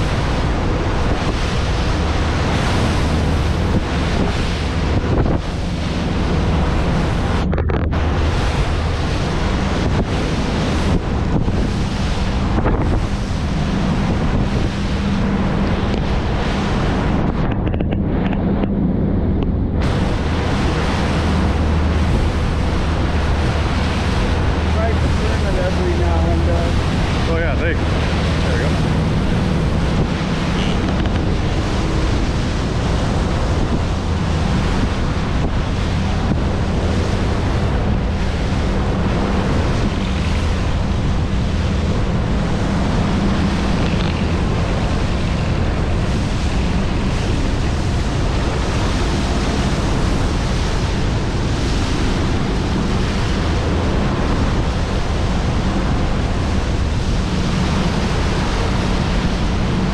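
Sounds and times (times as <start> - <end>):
boat engine drone: 0.0 - 59.9
rushing water: 0.0 - 59.9
wind noise on microphone: 0.0 - 59.9.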